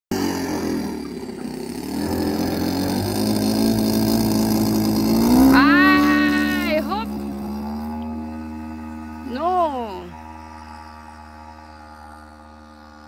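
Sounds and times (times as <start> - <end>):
model plane engine revving: 0.1 - 13.0.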